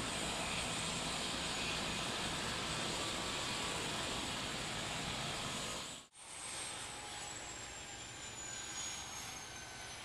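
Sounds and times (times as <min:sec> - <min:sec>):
helicopter rotor and engine: 0:00.0 - 0:10.0.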